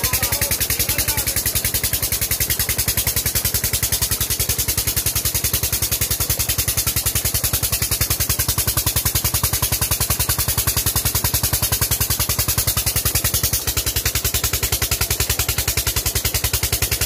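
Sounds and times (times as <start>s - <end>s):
water pouring from pipe: 0.0s - 17.0s.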